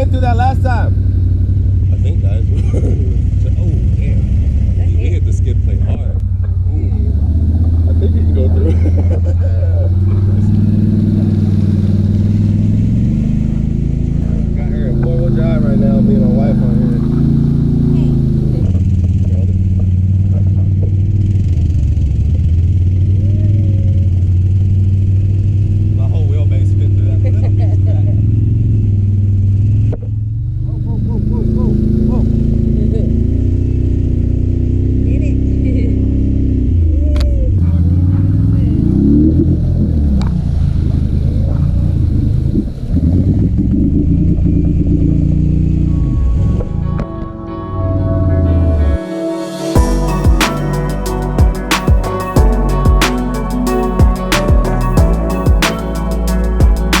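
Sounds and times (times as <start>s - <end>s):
truck engine rumbling: 0.0s - 49.0s.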